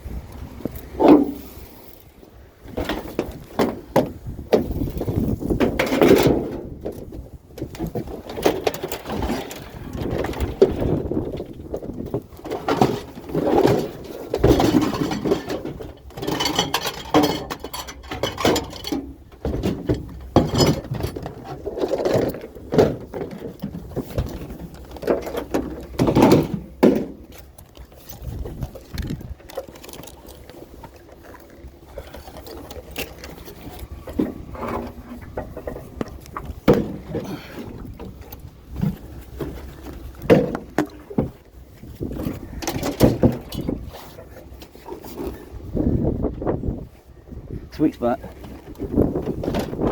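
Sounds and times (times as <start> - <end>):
scrap metal knocks and clanks: 0.6 - 1.6, 2.7 - 45.4.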